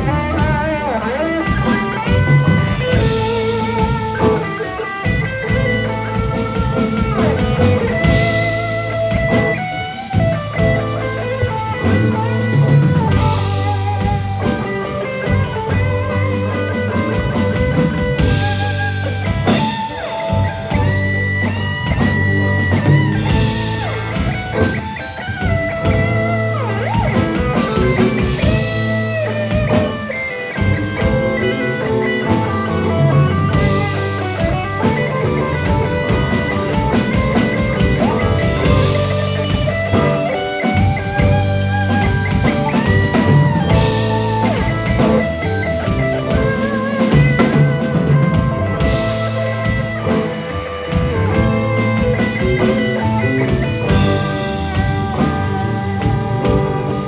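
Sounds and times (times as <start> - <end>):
electric guitar solo: 0.0 - 57.0
slow blues band backing: 0.0 - 57.0.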